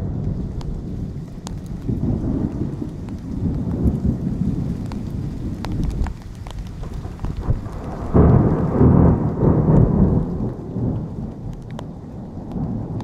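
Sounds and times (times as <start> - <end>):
heavy rain: 0.0 - 13.0
raindrops ticking: 0.0 - 13.0
thunder rumbling: 0.0 - 13.0.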